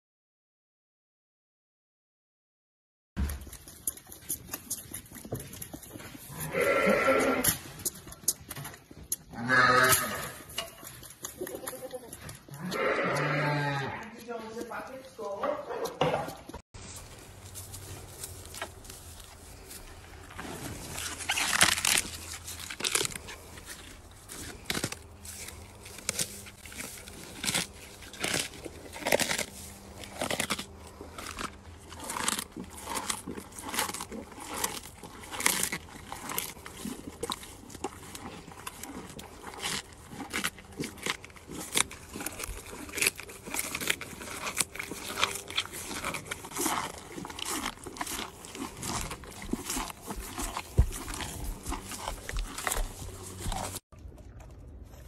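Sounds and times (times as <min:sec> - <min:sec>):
cow chewing crisp crunches: 0:03.2 - 0:16.0, 0:16.8 - 0:55.0.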